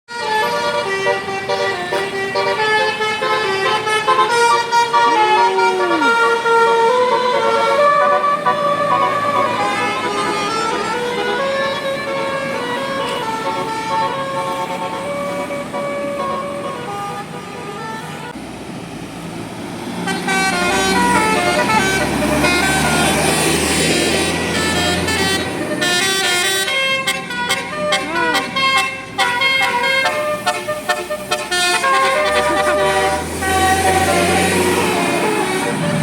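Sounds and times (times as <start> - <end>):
musical bus horn melody: 0.1 - 18.4, 20.0 - 36.0
bus engine rumble: 0.1 - 36.0.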